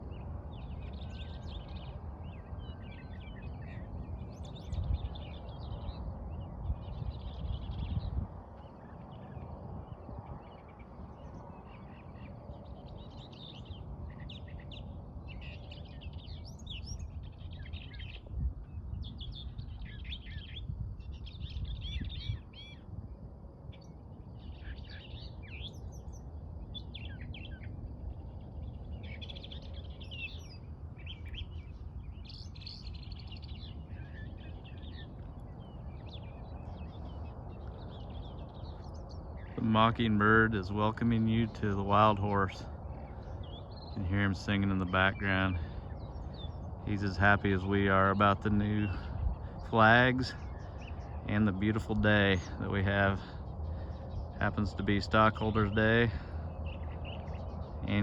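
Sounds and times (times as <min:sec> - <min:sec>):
mockingbird singing: 0:00.0 - 0:22.9, 0:23.7 - 0:58.0.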